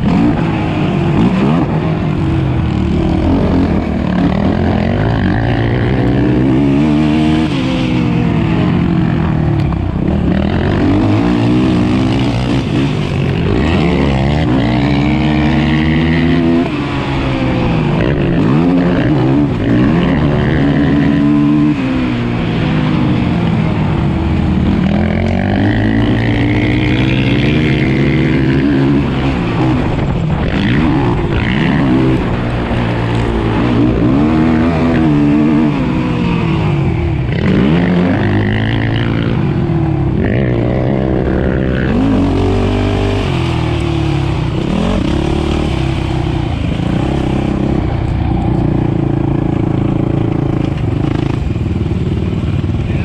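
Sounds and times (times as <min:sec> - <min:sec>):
quad engine revving: 0:00.0 - 0:53.0.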